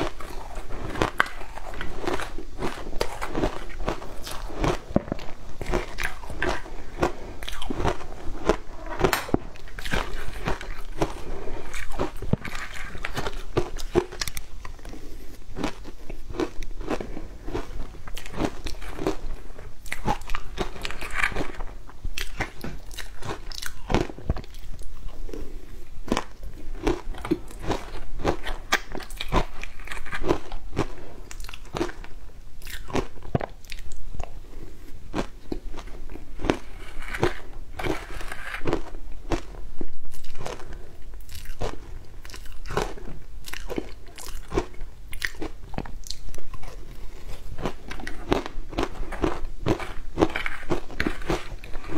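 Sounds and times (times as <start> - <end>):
crunching and chewing ice: 0.0 - 51.9.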